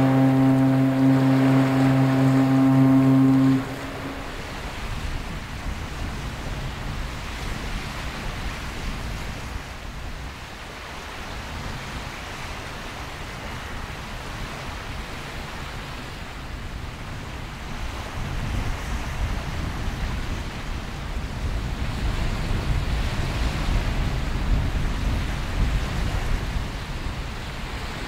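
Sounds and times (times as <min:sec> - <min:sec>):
choppy water washing: 0:00.0 - 0:28.0
wind noise on microphone: 0:00.0 - 0:28.0.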